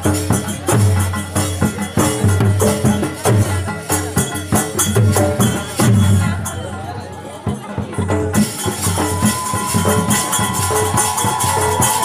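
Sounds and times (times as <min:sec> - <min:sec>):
drum beating steady rhythm: 0:00.0 - 0:12.0
jingling metal percussion: 0:00.0 - 0:12.0.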